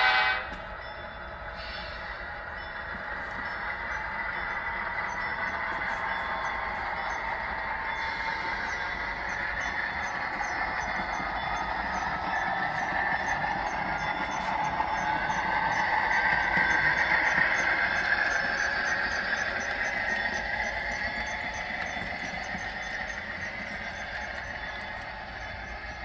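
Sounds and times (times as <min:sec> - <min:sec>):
model locomotive engine sound: 0:00.0 - 0:26.0
model train running on track: 0:00.0 - 0:26.0
faint regular ticking: 0:02.1 - 0:26.0.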